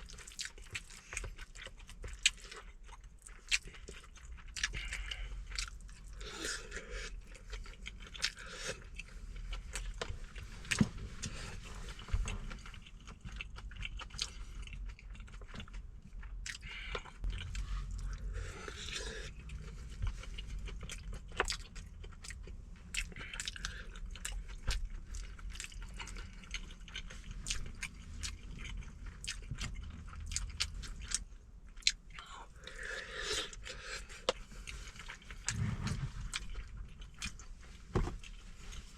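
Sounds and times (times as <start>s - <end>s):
person chewing food: 0.0s - 38.9s
steady low hum: 0.0s - 38.9s.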